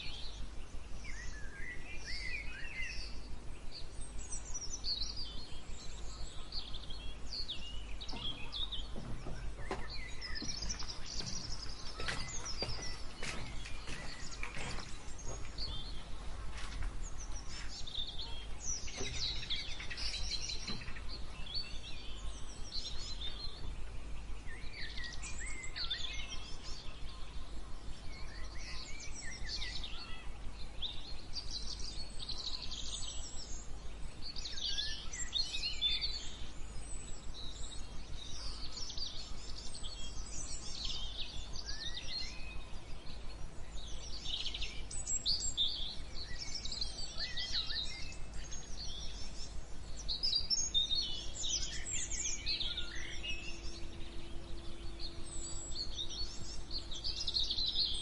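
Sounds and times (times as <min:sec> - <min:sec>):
low background rumble: 0:00.0 - 0:58.0
songbirds chirping and singing: 0:00.0 - 0:58.0.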